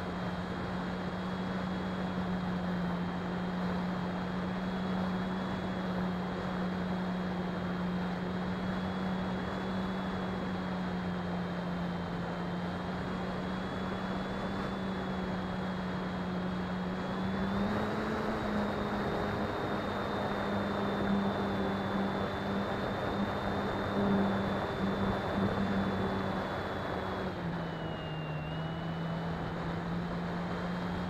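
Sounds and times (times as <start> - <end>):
electric motor and propeller drone: 0.0 - 31.0.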